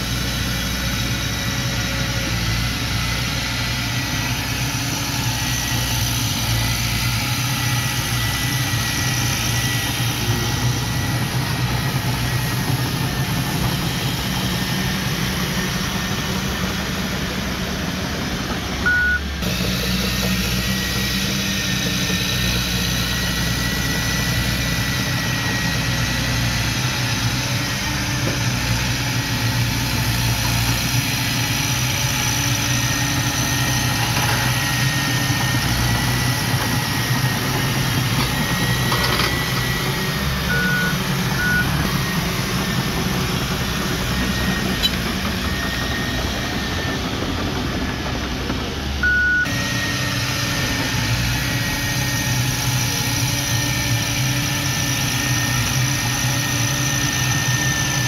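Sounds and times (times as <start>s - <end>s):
bulldozer diesel engine running: 0.0s - 58.0s
bulldozer pushing dirt and rock: 0.0s - 58.0s.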